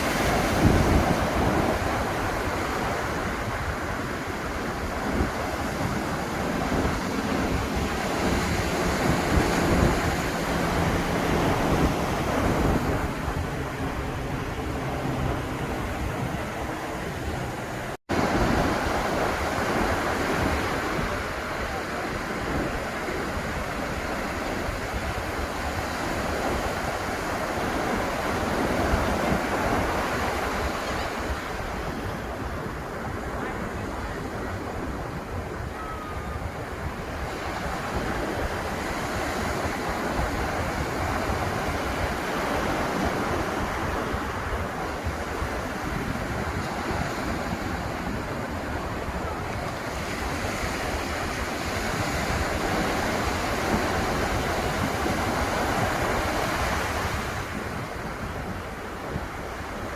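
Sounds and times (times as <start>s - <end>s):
ocean waves breaking on beach: 0.0s - 59.9s
wind buffeting microphone: 0.0s - 59.9s.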